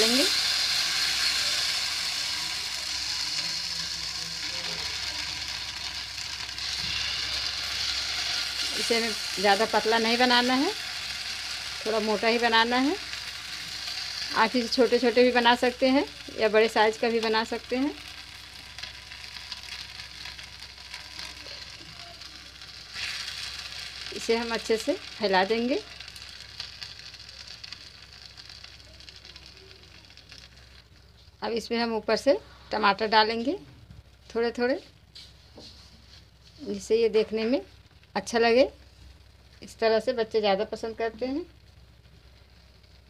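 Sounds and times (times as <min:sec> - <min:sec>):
batter sizzling in hot oil: 0:00.0 - 0:43.0.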